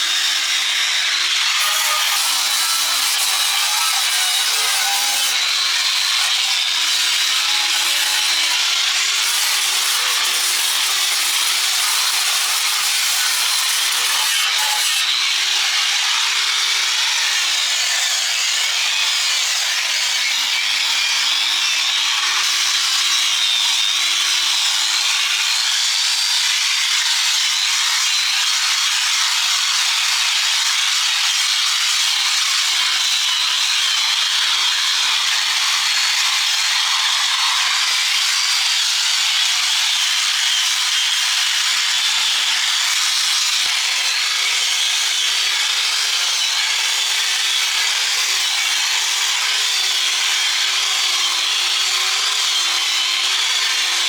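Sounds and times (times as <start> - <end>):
power grinder grinding steel: 0.0 - 54.0.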